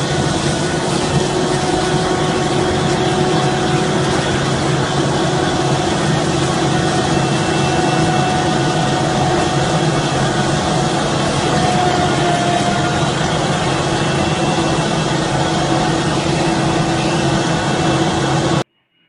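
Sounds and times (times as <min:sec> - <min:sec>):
heavy vehicle engine humming: 0:00.0 - 0:18.6.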